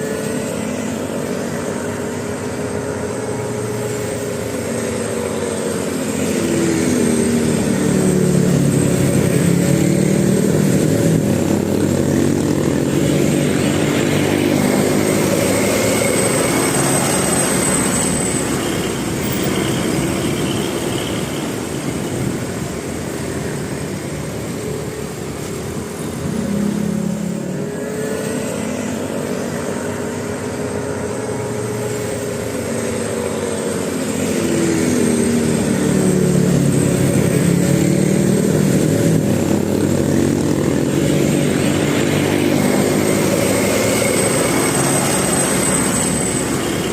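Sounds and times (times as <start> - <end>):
traffic noise: 0.0 - 46.9
vehicle engines revving: 0.0 - 46.9.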